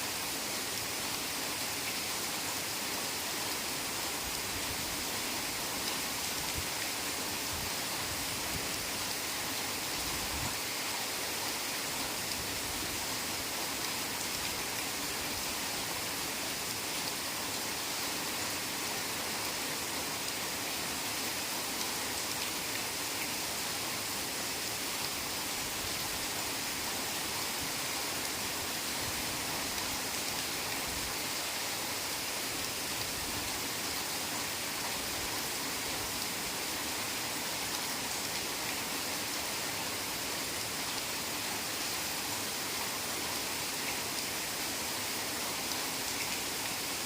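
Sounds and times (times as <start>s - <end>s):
heavy rain on foliage: 0.0s - 47.0s.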